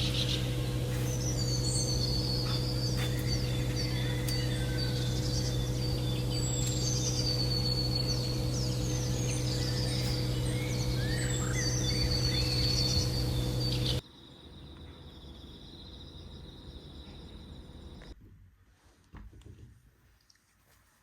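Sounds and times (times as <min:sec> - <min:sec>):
birds chirping: 0:00.0 - 0:18.0
high insect trill: 0:00.0 - 0:18.2
low hum: 0:00.0 - 0:18.2.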